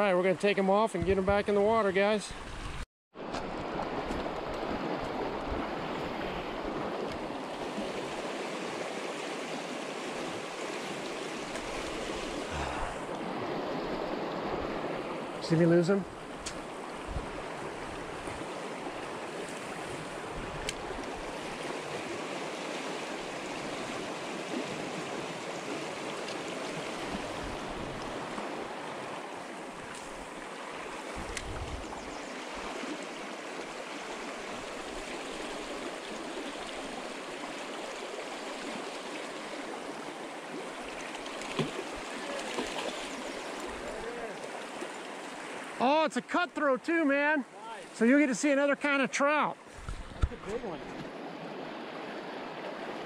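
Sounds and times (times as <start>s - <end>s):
stream flowing over rocks: 2.4s - 31.7s, 32.3s - 46.1s.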